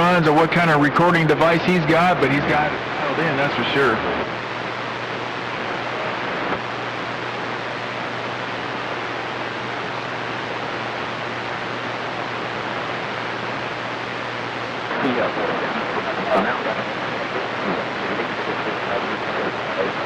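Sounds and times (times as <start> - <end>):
low steady hum: 0.0 - 20.0
radio static hiss: 0.0 - 20.0.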